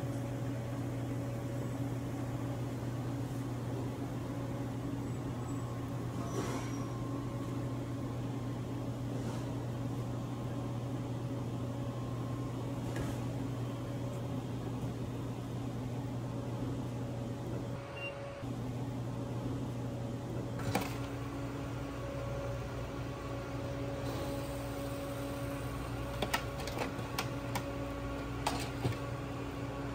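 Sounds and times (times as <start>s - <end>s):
kitchen equipment humming: 0.0s - 29.9s.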